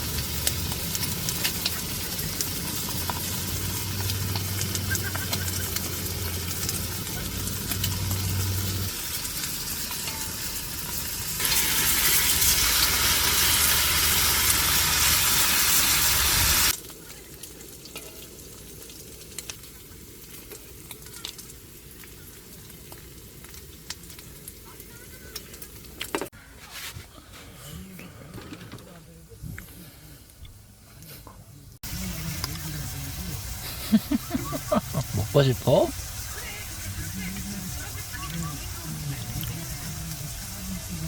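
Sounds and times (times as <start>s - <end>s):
food sizzling in a pan: 0.0s - 26.4s, 31.8s - 41.0s.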